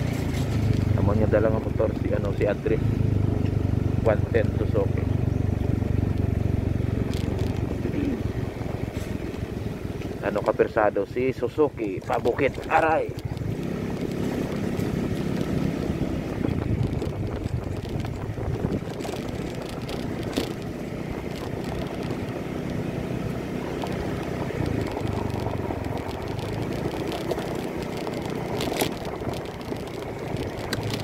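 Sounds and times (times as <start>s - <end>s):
scooter engine running under load: 0.0s - 31.0s
wind buffeting microphone: 5.1s - 31.0s.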